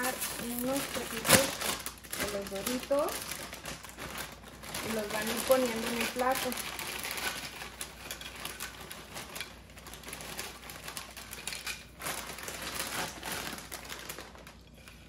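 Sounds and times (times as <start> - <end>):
snack bag rustling: 0.0 - 15.0.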